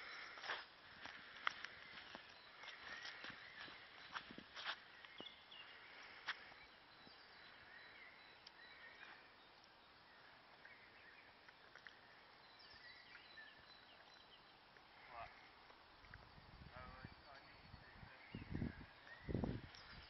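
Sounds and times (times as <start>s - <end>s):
faint bird chirps: 1.6s - 15.6s, 16.7s - 20.0s.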